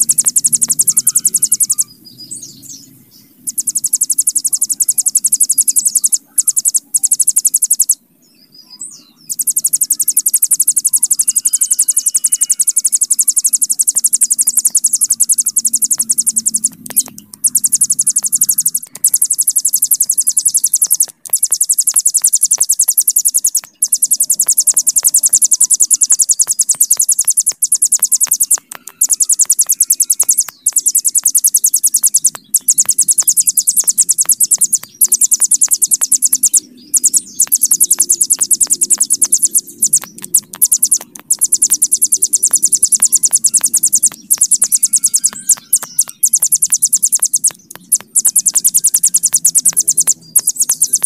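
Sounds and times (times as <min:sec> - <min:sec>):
bird singing high-pitched trills: 0:00.0 - 0:51.0.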